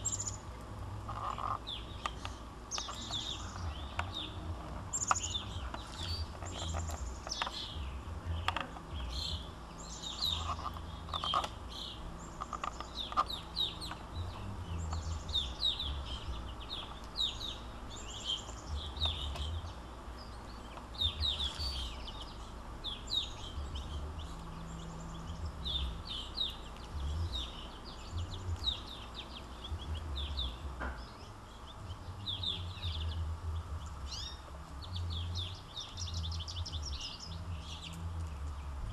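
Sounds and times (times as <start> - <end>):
low background rumble: 0.0 - 38.9
songbirds chirping: 0.0 - 38.9.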